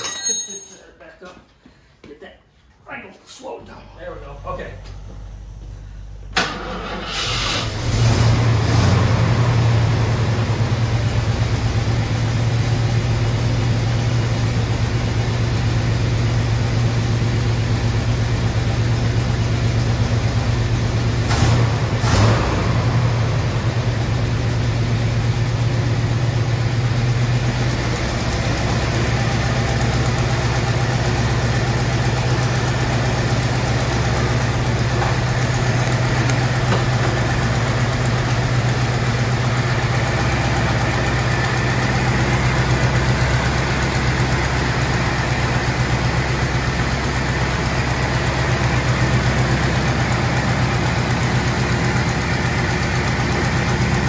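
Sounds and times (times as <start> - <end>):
engine cranking and idling: 4.4 - 54.0.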